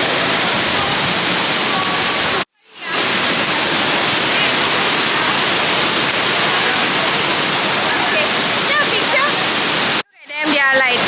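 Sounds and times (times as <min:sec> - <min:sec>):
loud rushing noise: 0:00.0 - 0:10.0.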